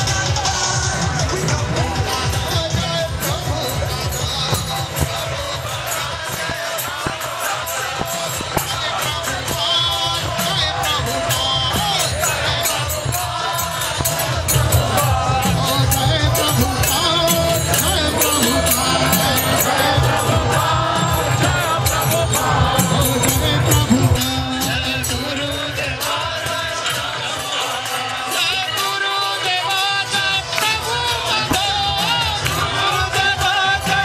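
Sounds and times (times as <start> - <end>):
crowd chanting: 0.0 - 34.0
drum: 0.0 - 34.0
hand cymbals: 0.0 - 34.0.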